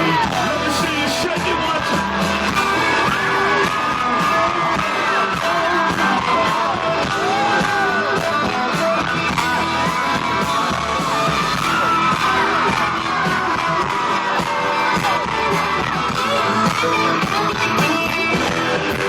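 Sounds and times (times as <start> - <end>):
concert crowd yelling: 0.0 - 19.0
country-rock band playing: 0.0 - 19.0.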